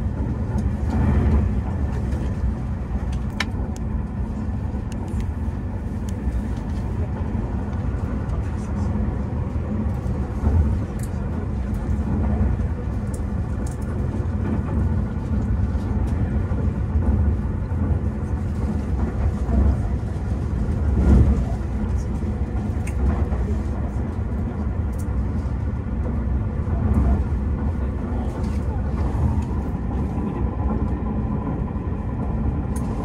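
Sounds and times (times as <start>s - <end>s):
electric train rumble: 0.0s - 33.0s.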